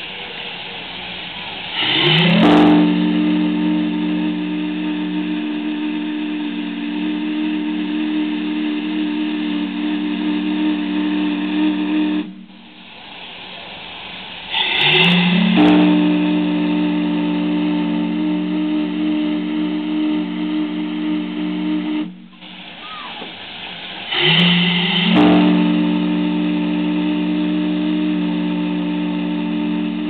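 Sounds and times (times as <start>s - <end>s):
steam whistle blowing: 0.0s - 13.0s, 14.5s - 30.0s.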